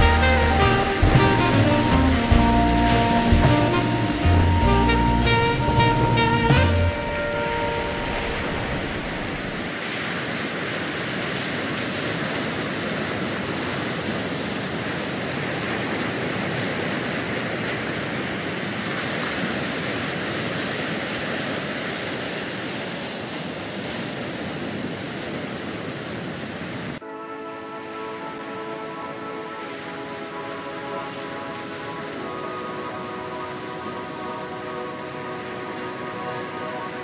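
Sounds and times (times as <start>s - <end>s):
waves breaking: 0.0s - 37.0s.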